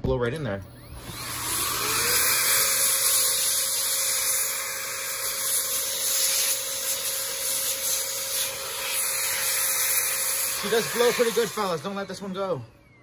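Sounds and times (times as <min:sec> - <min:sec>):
electric air duster blowing: 0:00.6 - 0:12.8.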